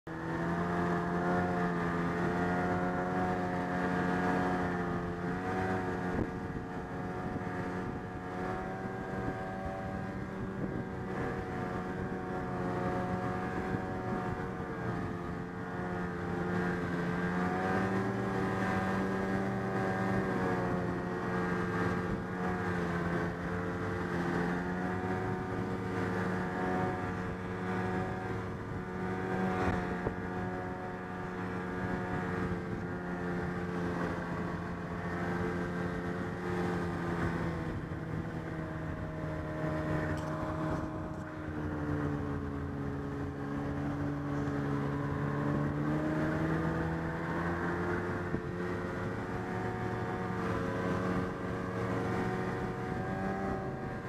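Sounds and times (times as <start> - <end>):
snowmobile engine running: 0.1 - 54.0.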